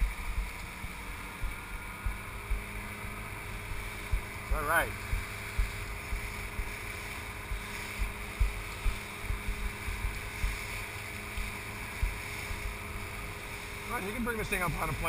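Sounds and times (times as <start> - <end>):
boat engine running: 0.0 - 15.0
wind buffeting microphone: 0.0 - 15.0
spray hissing along hull: 0.2 - 15.0.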